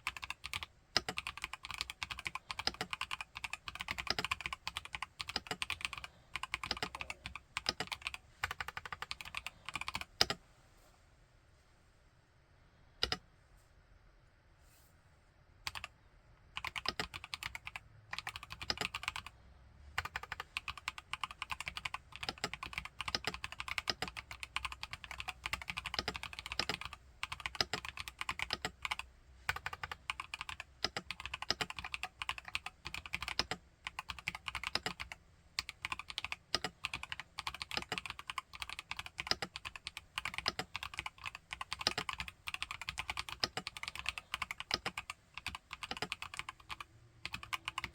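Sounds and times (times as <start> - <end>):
mechanical keyboard typing: 0.0 - 10.4, 13.0 - 13.2, 15.6 - 15.9, 16.6 - 19.3, 20.0 - 47.9.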